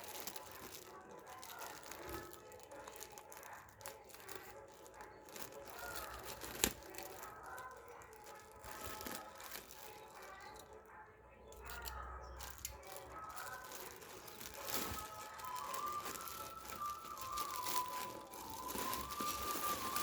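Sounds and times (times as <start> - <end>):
plastic packaging crinkling: 0.0 - 10.8, 11.6 - 20.0.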